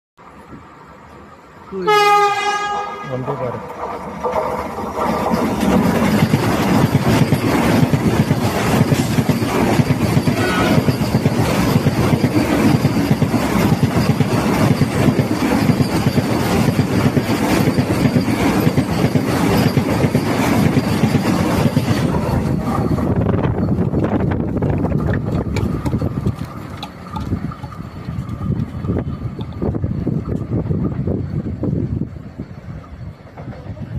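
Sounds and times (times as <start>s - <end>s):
train passing with rushing clatter: 0.2s - 33.9s.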